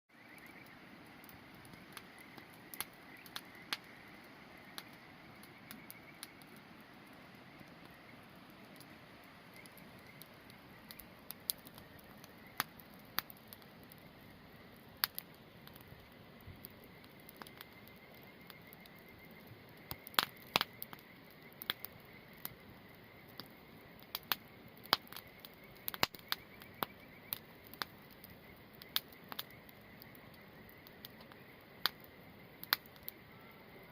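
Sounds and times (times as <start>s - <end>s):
campfire crackling and popping: 0.2s - 33.9s.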